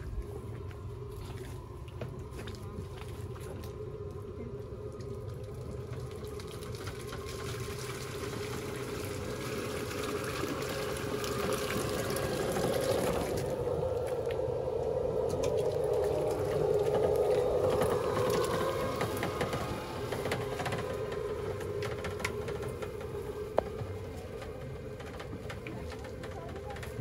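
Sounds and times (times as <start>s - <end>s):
wheels splashing through water: 0.0s - 27.0s.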